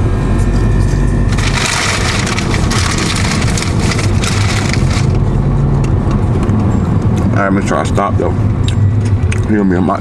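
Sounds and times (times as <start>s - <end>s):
car engine rumble: 0.0s - 10.0s
road and wind noise: 0.0s - 10.0s.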